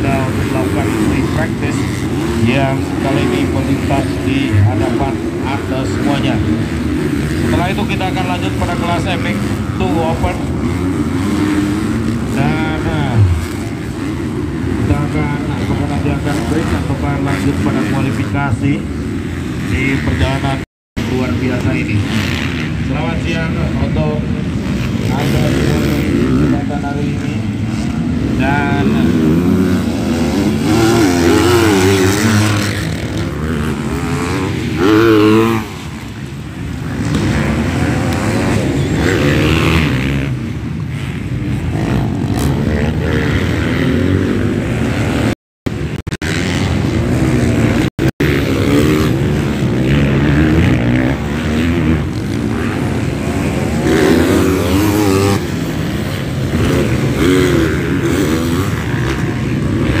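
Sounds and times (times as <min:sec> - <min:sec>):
motocross bike engines revving: 0:00.0 - 1:00.0.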